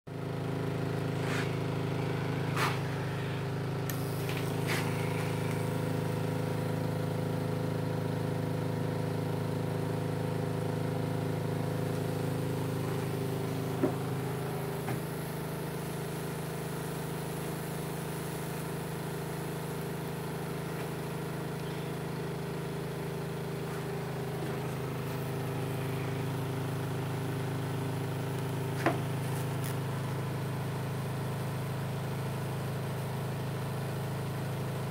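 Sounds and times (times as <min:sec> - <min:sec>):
transformer electrical hum: 0:00.1 - 0:34.9.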